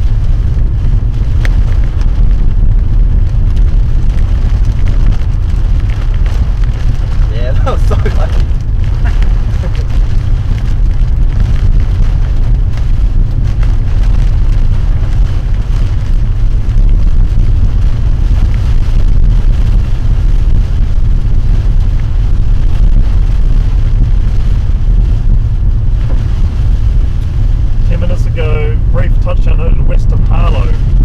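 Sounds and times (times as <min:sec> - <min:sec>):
engine and tyres rumbling: 0:00.0 - 0:31.0
wind noise: 0:00.0 - 0:31.0.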